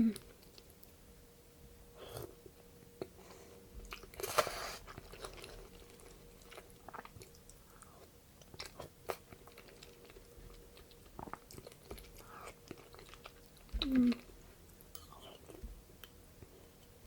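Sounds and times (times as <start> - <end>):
person chewing food: 3.0 - 17.0.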